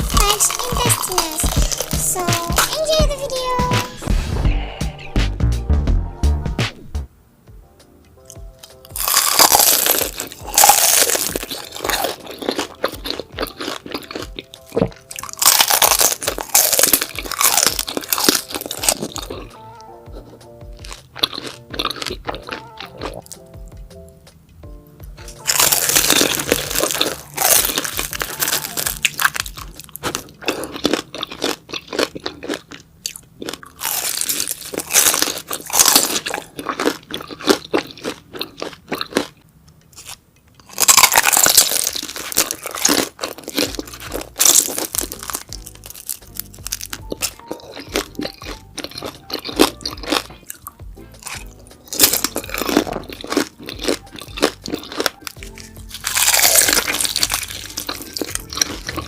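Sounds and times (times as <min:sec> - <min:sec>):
wet crunchy chewing: 0:00.0 - 0:03.0, 0:08.3 - 0:23.4, 0:25.2 - 0:59.0
background music: 0:00.0 - 0:39.3, 0:40.8 - 0:59.0.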